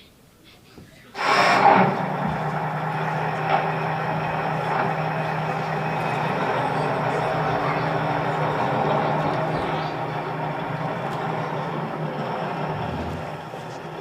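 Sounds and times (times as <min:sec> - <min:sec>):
large engine idling: 0:01.2 - 0:14.0.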